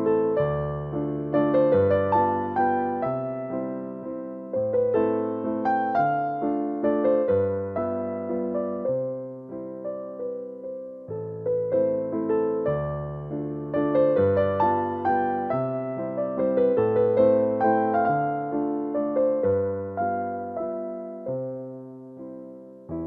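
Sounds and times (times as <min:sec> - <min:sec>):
electric piano playing chords: 0:00.0 - 0:23.0.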